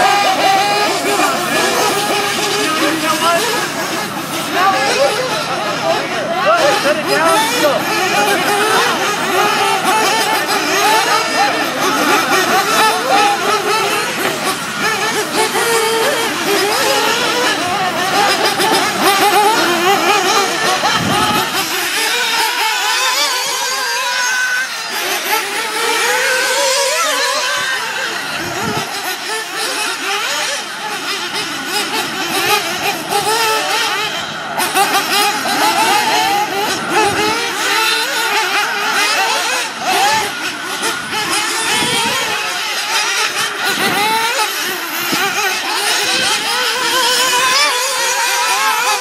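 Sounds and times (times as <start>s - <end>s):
rc car engines revving: 0.0s - 49.0s.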